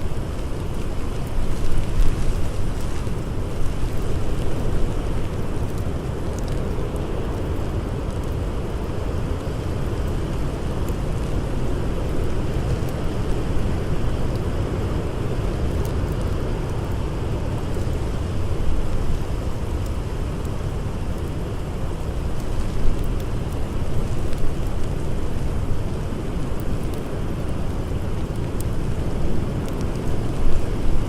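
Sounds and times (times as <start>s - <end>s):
blizzard wind blowing: 0.0s - 31.0s
campfire crackles: 0.0s - 31.0s.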